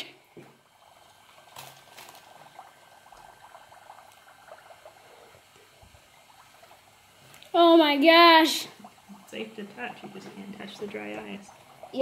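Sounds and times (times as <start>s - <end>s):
bubbles crackling and fizzing: 0.0s - 12.0s.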